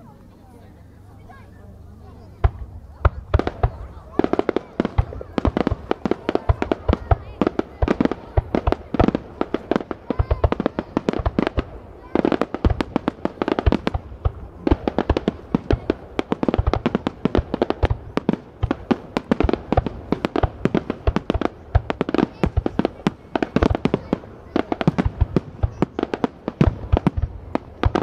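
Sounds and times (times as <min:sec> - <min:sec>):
fireworks bursting: 0:01.2 - 0:28.0.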